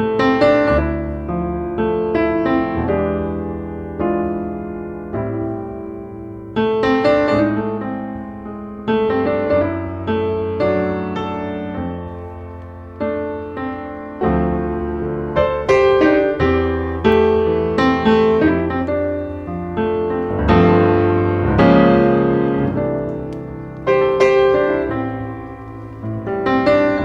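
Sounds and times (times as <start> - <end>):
slow piano music: 0.0 - 27.0.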